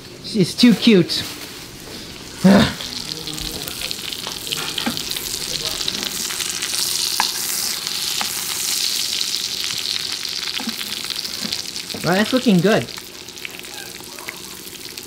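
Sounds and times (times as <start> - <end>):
meat sizzling in a frying pan: 1.4 - 15.0.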